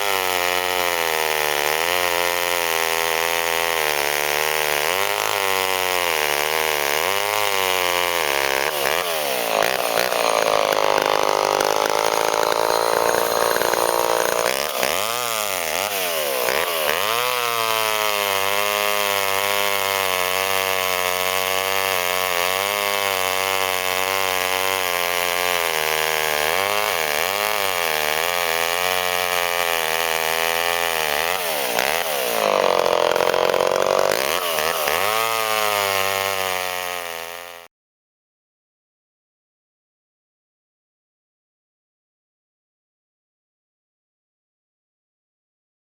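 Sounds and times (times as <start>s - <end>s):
chainsaw running: 0.0s - 37.7s.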